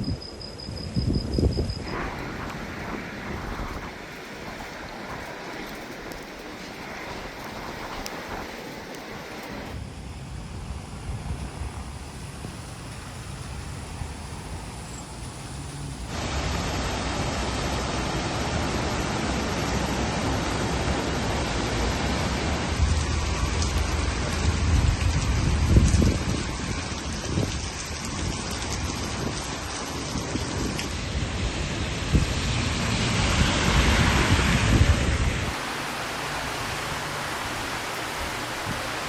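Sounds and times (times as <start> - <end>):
thunder rumbles: 1.4 - 35.6
heavy rain pouring: 1.8 - 39.0.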